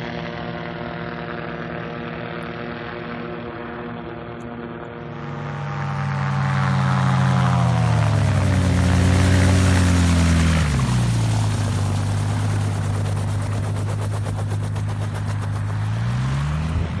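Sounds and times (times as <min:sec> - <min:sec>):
engine and propeller running: 0:00.0 - 0:17.0.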